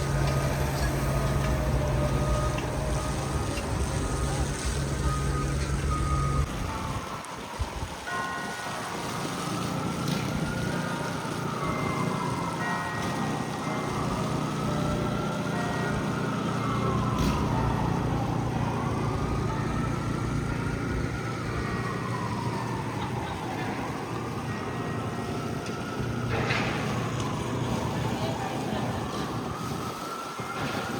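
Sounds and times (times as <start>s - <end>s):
city traffic rumble: 0.0s - 30.9s
emergency siren wailing: 0.0s - 30.9s.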